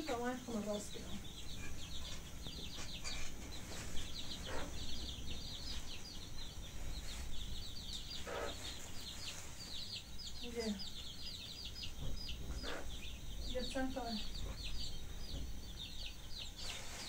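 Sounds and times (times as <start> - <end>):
low steady background rumble: 0.0 - 16.7
birds chirping: 0.0 - 17.0.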